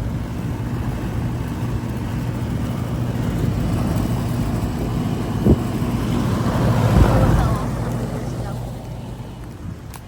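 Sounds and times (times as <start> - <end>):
condenser fans whooshing: 0.0 - 9.9
compressor hum: 0.0 - 10.0.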